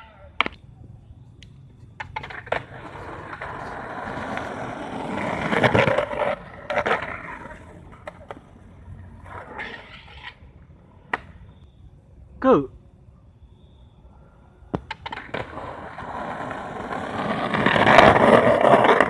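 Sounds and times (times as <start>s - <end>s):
skateboard wheels rolling on asphalt: 0.0s - 11.9s, 13.5s - 19.0s.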